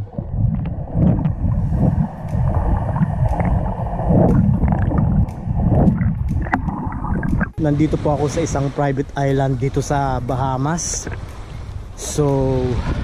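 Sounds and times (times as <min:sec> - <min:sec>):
muffled underwater churning: 0:00.0 - 0:13.0.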